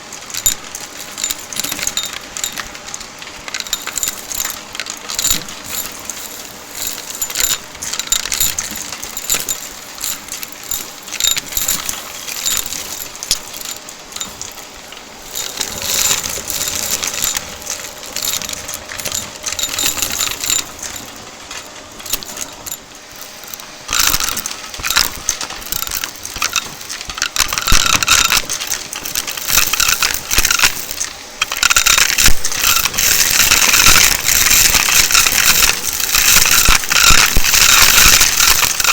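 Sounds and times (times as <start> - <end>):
debris rattling up vacuum hose: 0.0 - 38.9.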